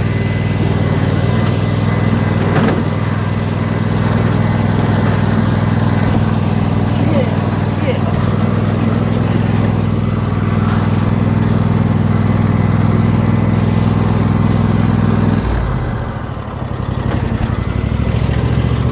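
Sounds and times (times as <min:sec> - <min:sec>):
lawn mower engine running: 0:00.0 - 0:18.9.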